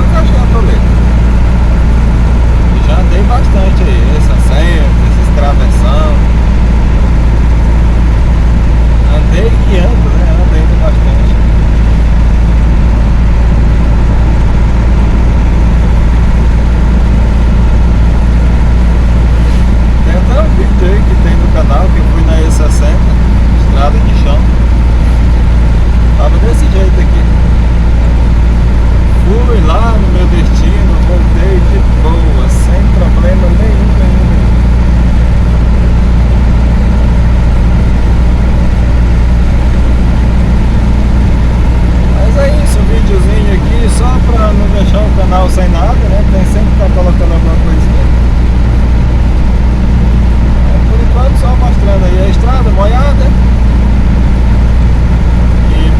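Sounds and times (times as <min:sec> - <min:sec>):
vehicle engine and road drone: 0:00.0 - 0:55.9.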